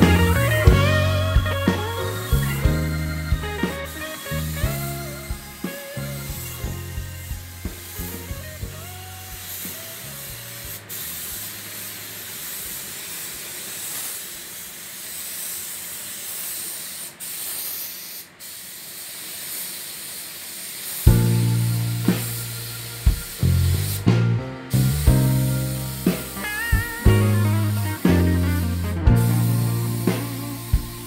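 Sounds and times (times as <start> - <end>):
spray gun air hiss: 0.0 - 31.0.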